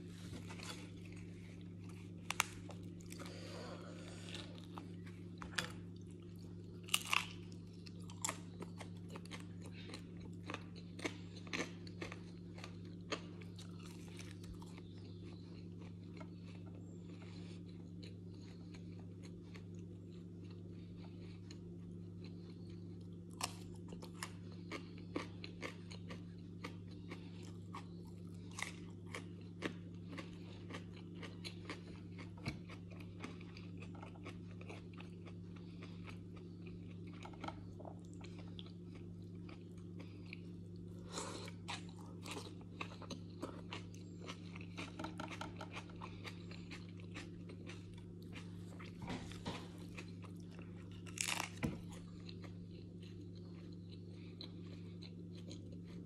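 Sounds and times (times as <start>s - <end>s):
person chewing crunchy food: 0.0s - 56.0s
steady low hum: 0.0s - 56.0s.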